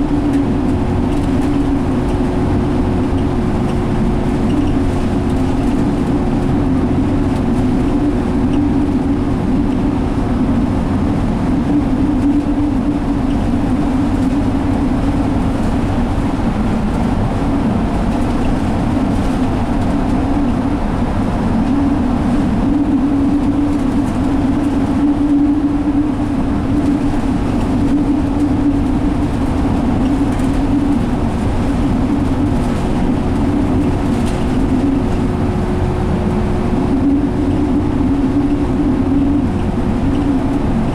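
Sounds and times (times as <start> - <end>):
bus interior engine drone: 0.0 - 40.9
constant low hum: 0.0 - 40.9
road noise: 0.0 - 40.9.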